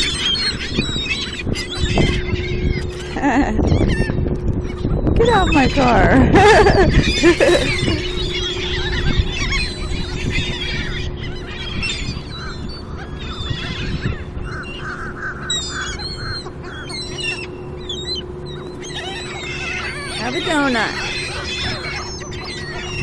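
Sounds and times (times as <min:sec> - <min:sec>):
seagulls calling: 0:00.0 - 0:23.0
steady low hum: 0:00.0 - 0:23.0.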